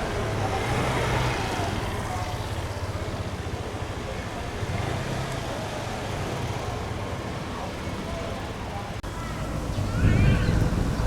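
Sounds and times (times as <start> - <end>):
low rumble of street traffic: 0.0 - 11.0.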